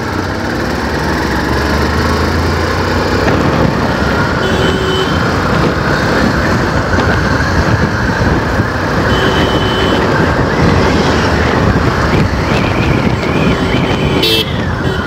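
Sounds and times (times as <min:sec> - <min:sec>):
wind buffeting microphone: 0:01.8 - 0:04.4, 0:05.0 - 0:15.0.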